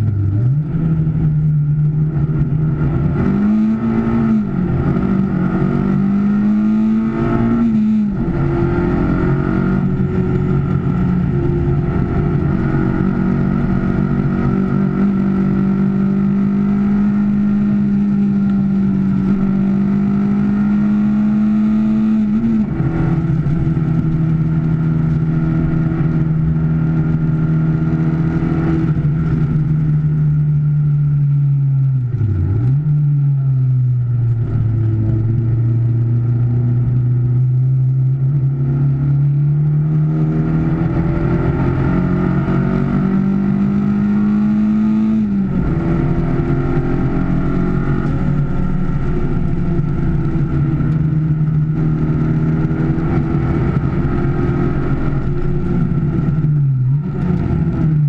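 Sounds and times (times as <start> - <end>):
car engine revving in cabin: 0.0 - 58.0.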